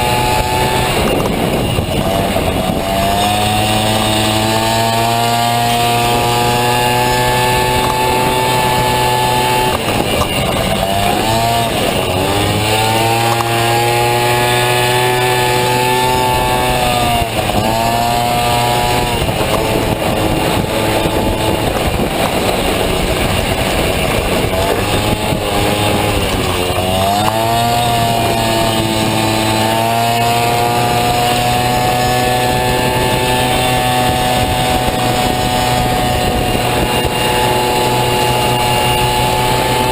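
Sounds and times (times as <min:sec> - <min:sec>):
two-stroke scooter engine revving: 0:00.0 - 0:39.9.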